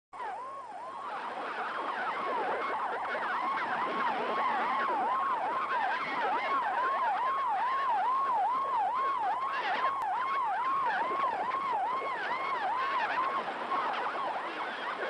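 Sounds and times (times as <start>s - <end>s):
radio band noise: 0.2s - 15.0s
warbling alarm tone from radio: 0.2s - 15.0s.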